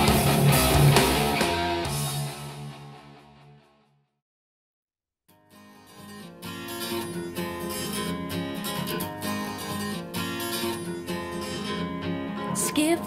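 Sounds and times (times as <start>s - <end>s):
strummed acoustic guitar: 0.0s - 2.9s, 5.3s - 13.0s.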